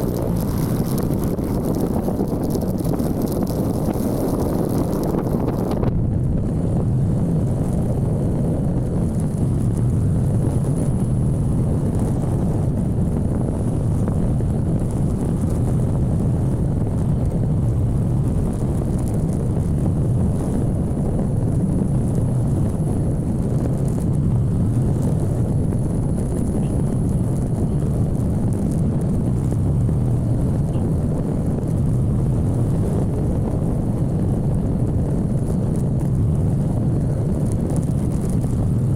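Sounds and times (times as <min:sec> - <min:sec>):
motorcycle road noise: 0:00.0 - 0:38.9
wind buffeting microphone: 0:00.0 - 0:38.9.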